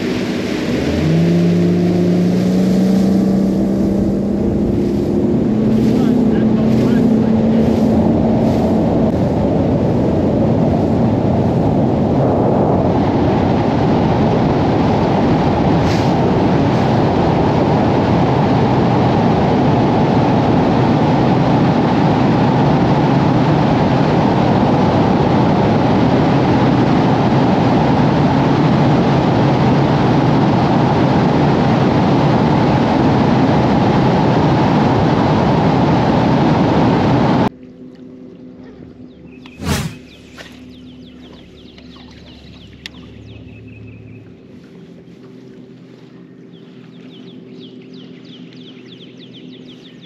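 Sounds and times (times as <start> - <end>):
rush of wind and water: 0.0 - 47.1
boat motor running at speed: 0.0 - 50.0.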